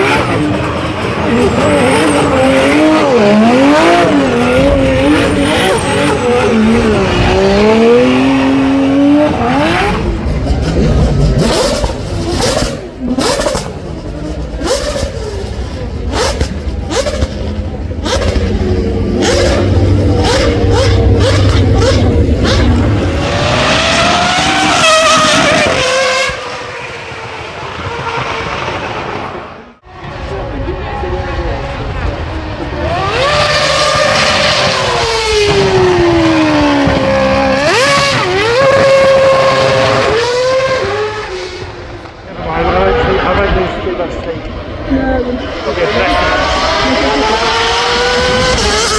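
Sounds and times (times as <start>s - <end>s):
racing car engine revving: 0.0s - 48.9s.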